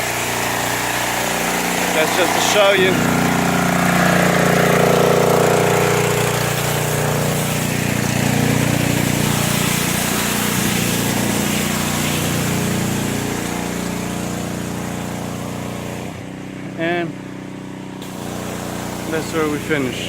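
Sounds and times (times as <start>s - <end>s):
pressure washer hiss: 0.0s - 16.2s, 18.0s - 20.0s
pressure washer engine running: 0.0s - 20.0s.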